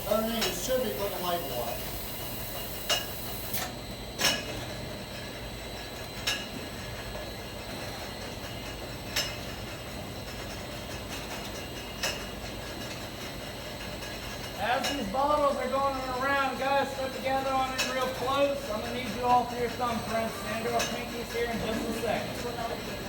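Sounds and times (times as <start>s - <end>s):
bottling machinery humming: 0.0s - 23.0s.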